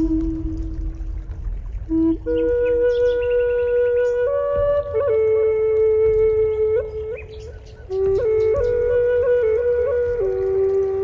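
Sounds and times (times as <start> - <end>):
wind instrument slow melody: 0.0 - 11.0.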